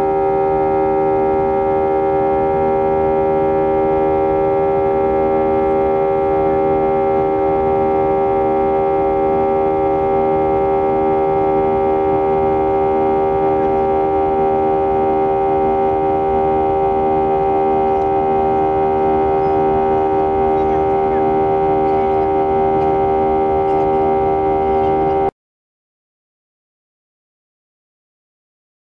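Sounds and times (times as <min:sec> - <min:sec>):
jet engine drone in cabin: 0:00.0 - 0:25.3.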